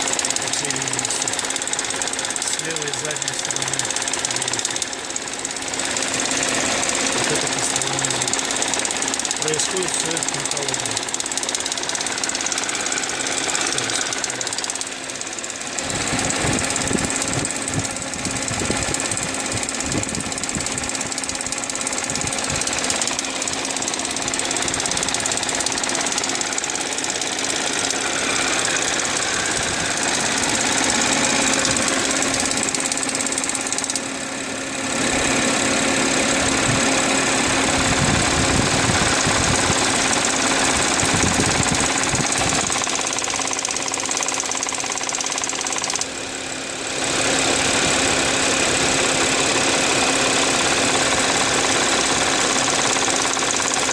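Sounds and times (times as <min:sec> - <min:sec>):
car engine running: 0:00.0 - 0:53.9
engine rattling: 0:00.0 - 0:53.9.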